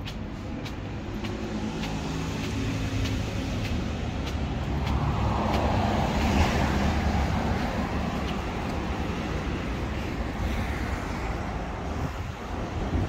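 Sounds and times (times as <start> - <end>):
vehicle passing: 0.0 - 12.3
traffic rumble: 0.0 - 13.0.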